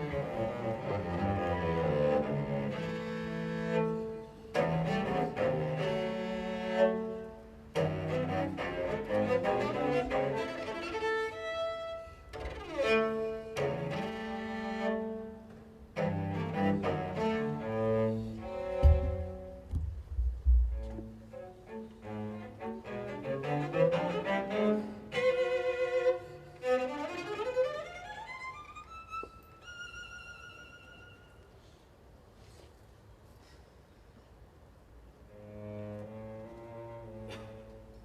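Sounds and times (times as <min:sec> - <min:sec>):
string orchestra playing classical music: 0:00.0 - 0:19.7, 0:20.8 - 0:31.5, 0:35.2 - 0:38.0
solo cello: 0:00.0 - 0:31.8, 0:35.1 - 0:38.0.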